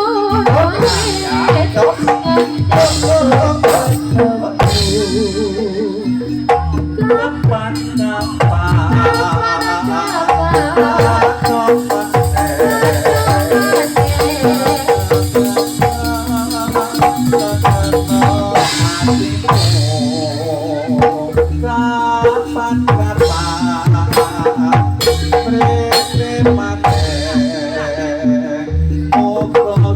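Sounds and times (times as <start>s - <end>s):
gamelan music: 0.0s - 29.9s
regular drum beats: 0.0s - 29.9s.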